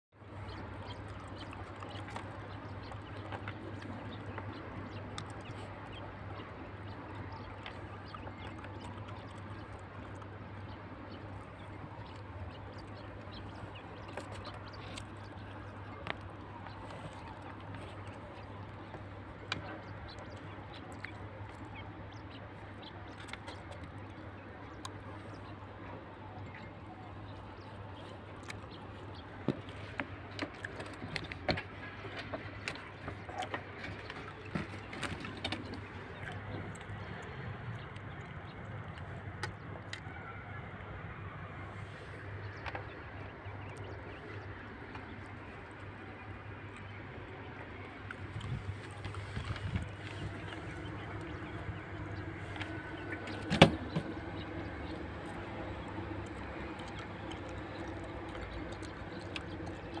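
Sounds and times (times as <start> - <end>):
steady low hum: 0.2 - 60.0.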